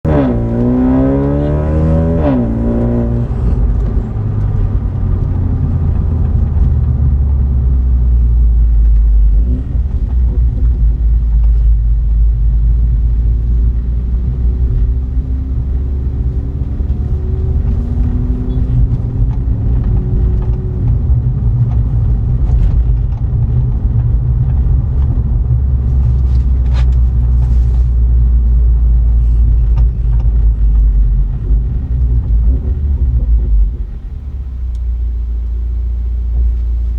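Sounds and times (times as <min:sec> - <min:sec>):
car engine cruising: 0:00.0 - 0:36.9.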